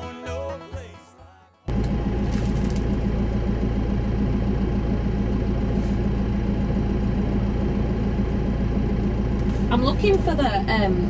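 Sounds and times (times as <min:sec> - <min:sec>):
tractor diesel engine idling: 0:01.7 - 0:11.0.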